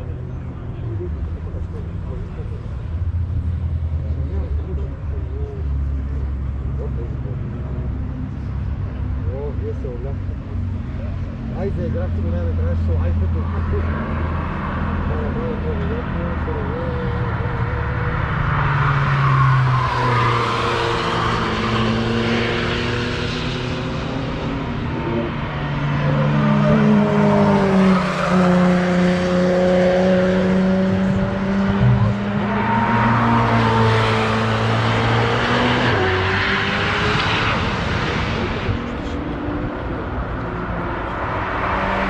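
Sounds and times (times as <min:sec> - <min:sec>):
race cars passing with engines revving: 0:00.0 - 0:42.0.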